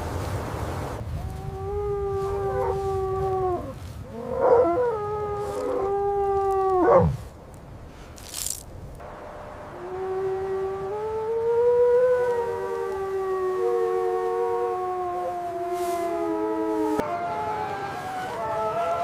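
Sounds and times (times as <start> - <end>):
wolf howling: 1.2 - 7.2, 9.7 - 19.0.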